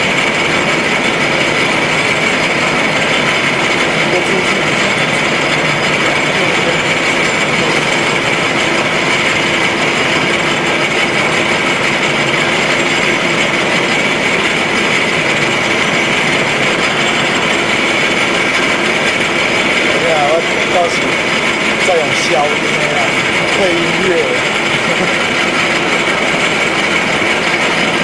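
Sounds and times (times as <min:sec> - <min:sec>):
high mechanical whine: 0:00.0 - 0:28.0
milling machine running: 0:00.0 - 0:28.0.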